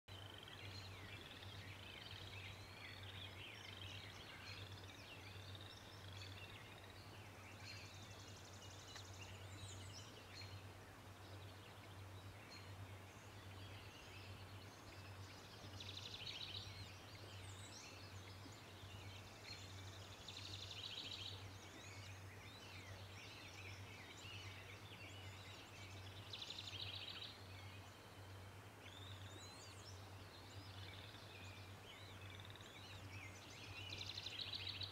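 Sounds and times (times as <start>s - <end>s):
small birds chirping and singing: 0.1s - 34.9s.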